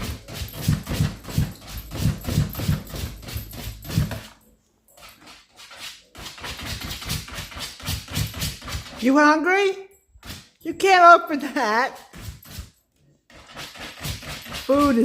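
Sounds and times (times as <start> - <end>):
puppy scratching at container: 0.0 - 9.1, 11.9 - 15.0.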